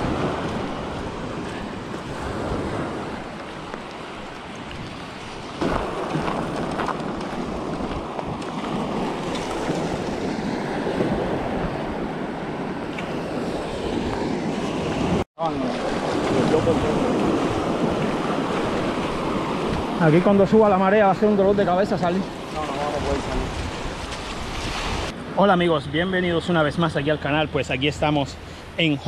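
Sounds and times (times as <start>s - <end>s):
small waves washing on sand: 0.0s - 25.2s
wind on microphone: 0.0s - 25.2s.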